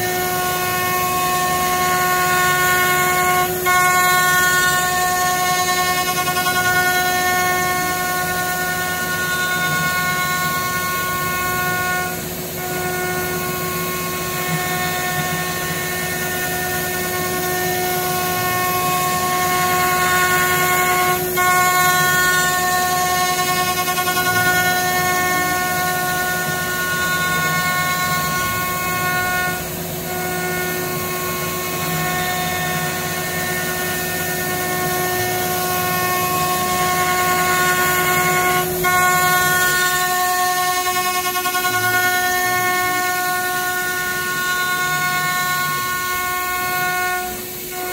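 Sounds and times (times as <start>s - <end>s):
high spindle whine: 0.0s - 47.9s.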